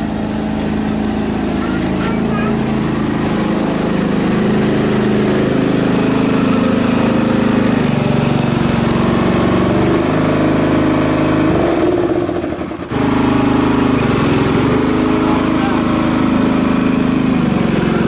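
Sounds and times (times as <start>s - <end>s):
small locomotive engine running: 0.0s - 18.0s.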